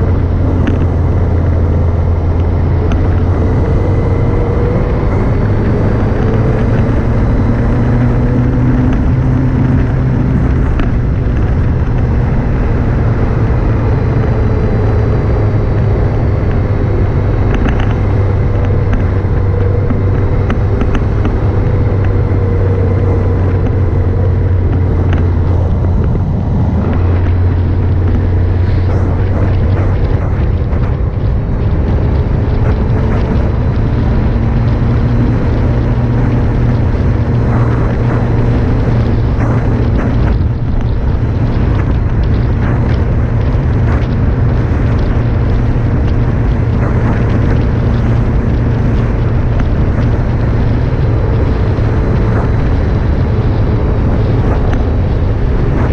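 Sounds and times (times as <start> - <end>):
motorcycle engine running: 0.0 - 55.9
wind on camera microphone: 0.0 - 55.9.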